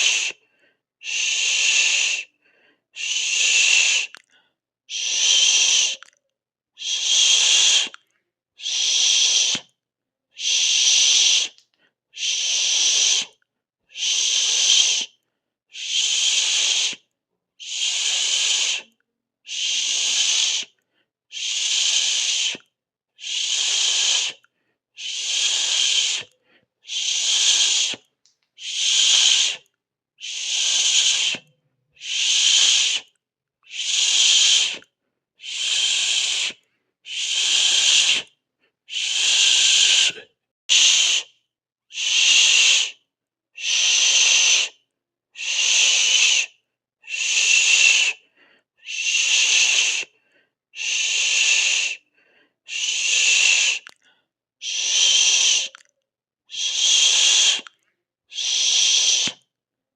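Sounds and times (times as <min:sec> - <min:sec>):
breathy shh hisses by mouth: 0:00.0 - 0:06.0, 0:06.8 - 0:09.8, 0:10.4 - 0:43.0, 0:43.6 - 0:44.8, 0:45.4 - 0:55.8, 0:56.5 - 0:59.5.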